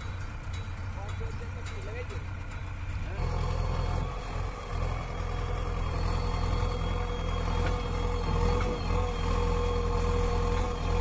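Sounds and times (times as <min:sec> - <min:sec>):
diesel engine low rumble: 0:00.0 - 0:11.0.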